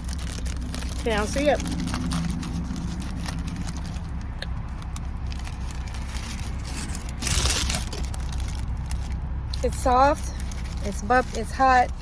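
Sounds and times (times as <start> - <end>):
car idling hum: 0.0 - 12.0
paper wrapper rustling: 0.0 - 12.0.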